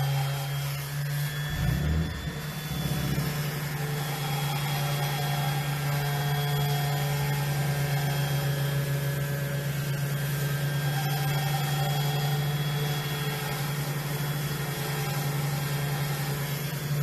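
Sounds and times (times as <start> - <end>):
power sander running: 0.0 - 17.0.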